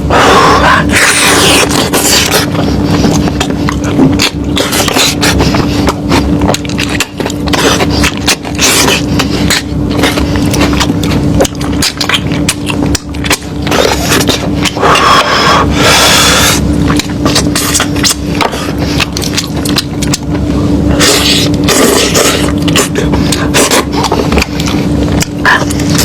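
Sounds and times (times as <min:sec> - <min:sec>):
chewing and tearing meat: 0:00.0 - 0:26.0
low hum: 0:00.0 - 0:26.0.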